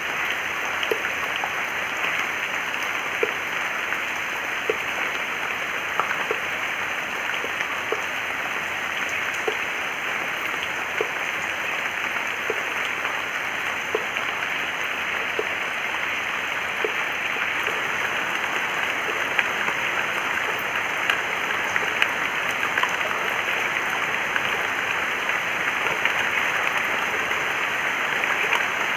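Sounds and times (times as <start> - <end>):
water rushing: 0.0 - 28.9.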